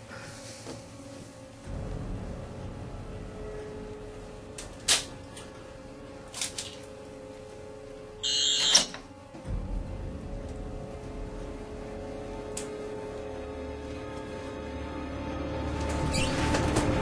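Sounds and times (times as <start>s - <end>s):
tense music drone: 0.0s - 17.0s.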